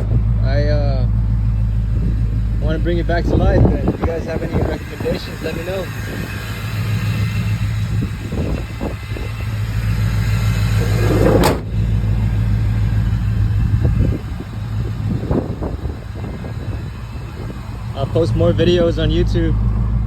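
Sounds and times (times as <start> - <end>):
pickup engine running: 0.0 - 20.0.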